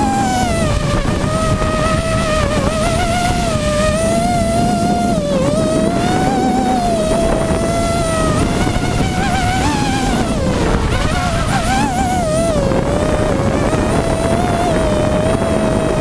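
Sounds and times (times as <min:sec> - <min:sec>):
drone motors whining: 0:00.0 - 0:16.0
rush of prop wash and wind: 0:00.0 - 0:16.0.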